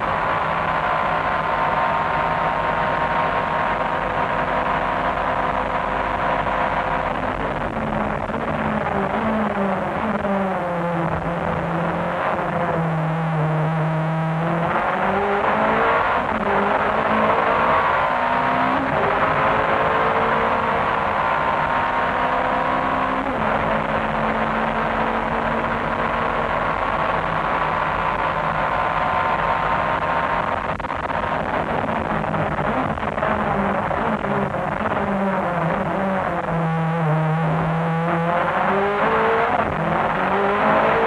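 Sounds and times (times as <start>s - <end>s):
race car engine at full throttle: 0.0s - 41.0s.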